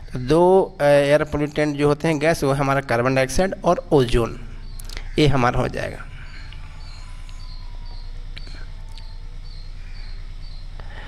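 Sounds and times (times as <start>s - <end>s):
faint high chirps: 0.0s - 11.0s
steady low hum: 0.0s - 11.0s.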